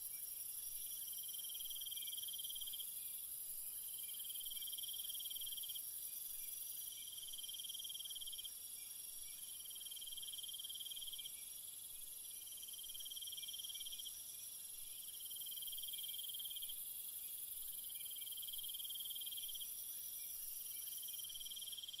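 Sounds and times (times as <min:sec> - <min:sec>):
cricket pulsed trill: 0:00.0 - 0:22.0.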